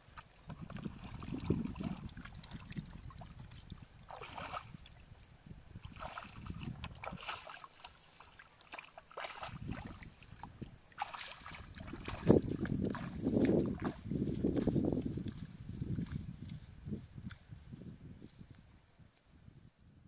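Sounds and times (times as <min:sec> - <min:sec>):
low wind rumble on microphone: 0:00.0 - 0:07.6, 0:09.4 - 0:20.0
footsteps sloshing through water: 0:00.0 - 0:17.6.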